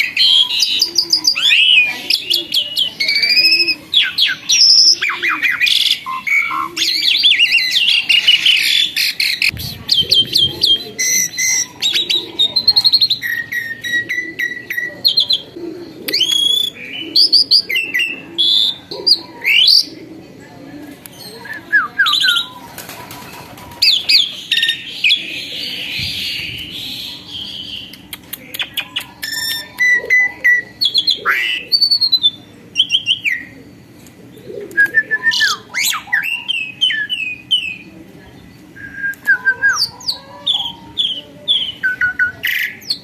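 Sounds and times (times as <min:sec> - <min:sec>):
starling singing: 0:00.0 - 0:20.2, 0:21.1 - 0:43.0.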